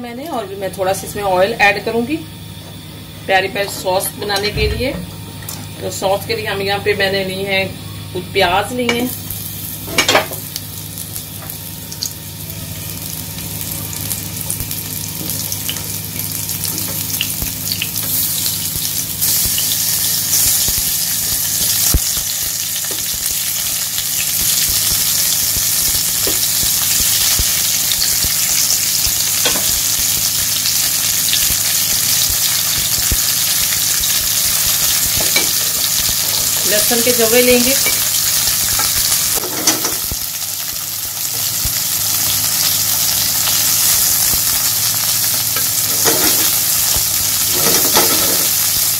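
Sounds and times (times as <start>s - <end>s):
vegetables sizzling in hot oil: 8.5s - 48.9s.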